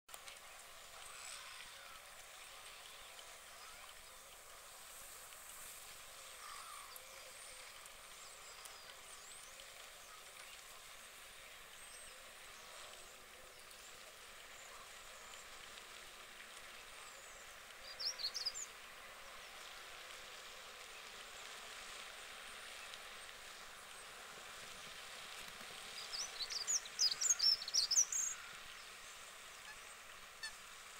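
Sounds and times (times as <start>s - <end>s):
lakeside background noise: 0.1s - 30.9s.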